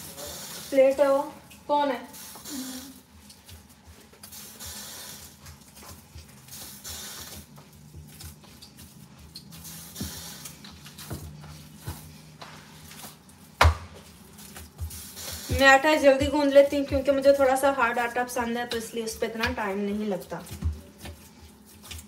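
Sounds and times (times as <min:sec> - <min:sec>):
hands kneading dough: 0:02.4 - 0:22.0.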